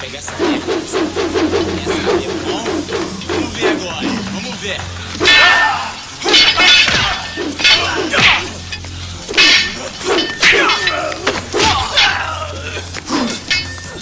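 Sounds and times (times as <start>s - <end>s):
film soundtrack music: 0.0s - 14.0s
sharp hits: 0.1s - 12.5s.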